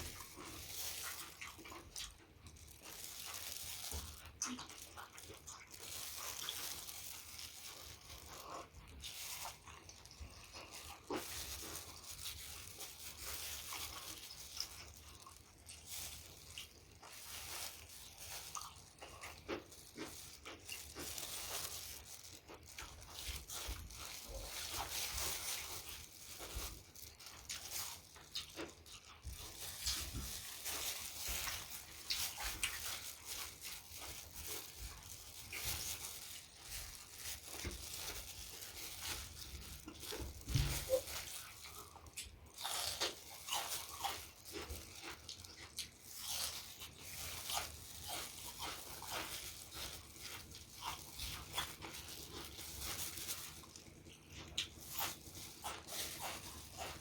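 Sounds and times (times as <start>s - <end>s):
wet chewing mouth sounds: 0.0s - 12.4s, 13.1s - 57.0s.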